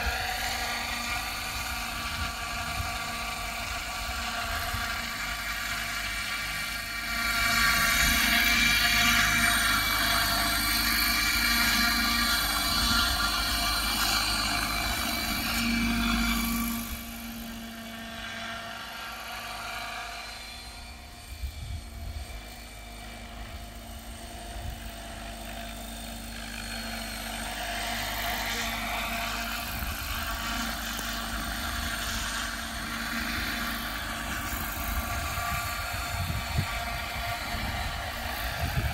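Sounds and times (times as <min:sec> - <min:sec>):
model helicopter rotors whining: 0:00.0 - 0:38.9.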